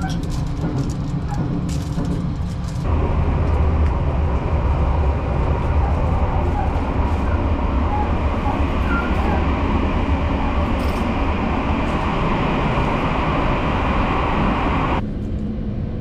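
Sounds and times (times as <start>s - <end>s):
dull hum: 0.0s - 16.0s
train running rumble and hiss: 0.0s - 16.0s.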